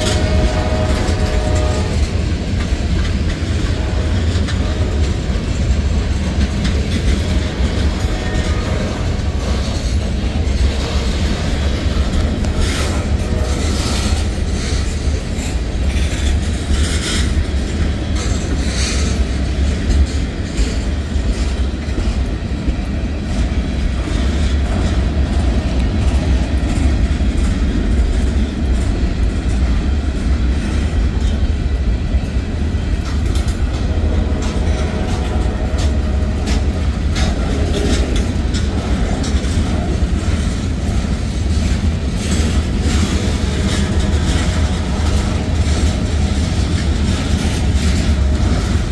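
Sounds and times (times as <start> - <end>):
train wheels rumbling on rails: 0.0 - 48.9
wheels clicking and clanking: 0.0 - 48.9.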